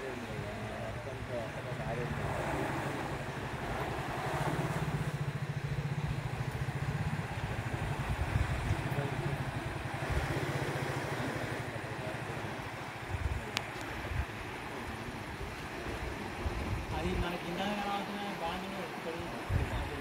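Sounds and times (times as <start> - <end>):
engine idling: 0.0 - 17.1
steady rushing noise: 0.0 - 20.0.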